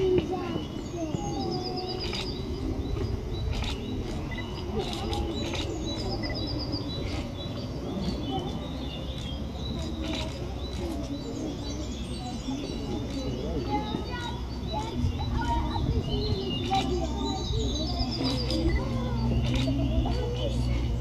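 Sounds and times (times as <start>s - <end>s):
bird trill: 0.0s - 21.0s
murmur of voices: 0.0s - 21.0s
songbirds chirping: 0.0s - 21.0s.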